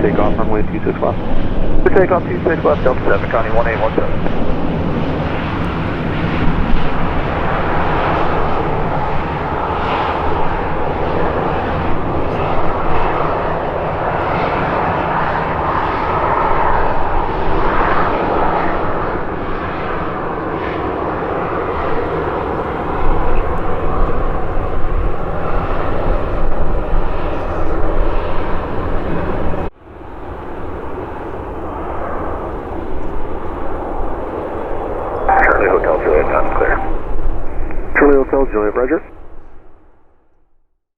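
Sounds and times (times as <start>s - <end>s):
wind buffeting microphone: 0.0s - 19.2s, 21.2s - 37.9s
airliner engines roaring: 0.0s - 39.8s.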